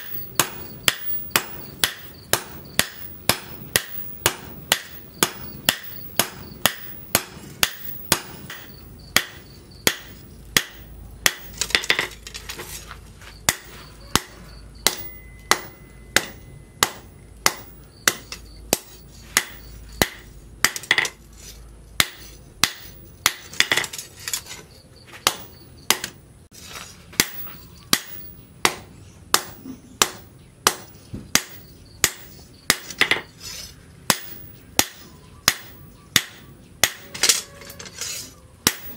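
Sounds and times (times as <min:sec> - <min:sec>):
hammer striking hot steel: 0:00.0 - 0:12.4, 0:13.4 - 0:21.2, 0:22.0 - 0:24.4, 0:25.2 - 0:26.2, 0:27.2 - 0:33.3, 0:34.0 - 0:37.8, 0:38.6 - 0:38.9.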